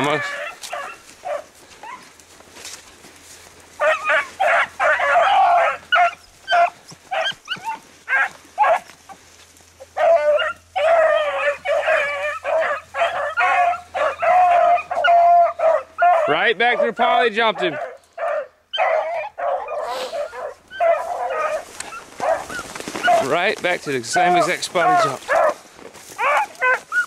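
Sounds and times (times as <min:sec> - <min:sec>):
hounds baying: 0:00.0 - 0:27.0.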